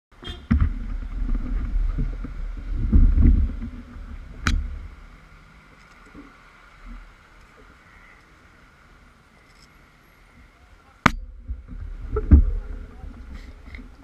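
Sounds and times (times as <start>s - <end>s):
wind rumble on microphone: 0.1s - 9.4s, 10.2s - 14.0s
street background: 0.1s - 14.0s.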